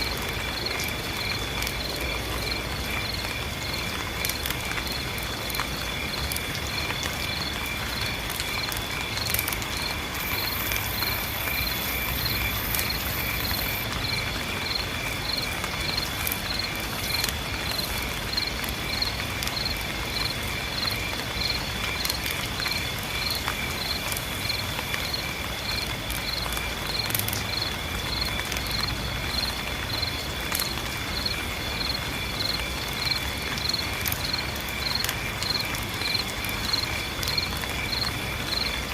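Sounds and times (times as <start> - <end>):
steady rain hiss: 0.0 - 38.9
insect chirping: 5.8 - 30.2, 31.1 - 38.9.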